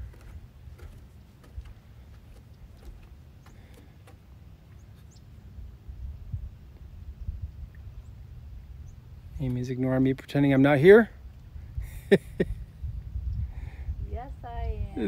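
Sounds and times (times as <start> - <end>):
wind rumbling on microphone: 0.0 - 3.5, 5.0 - 15.0.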